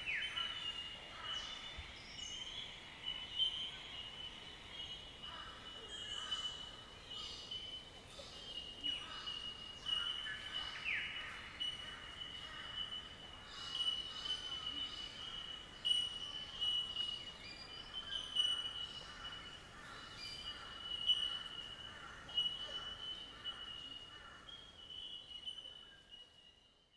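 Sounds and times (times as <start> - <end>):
bird chirps and calls: 0.0 - 26.4.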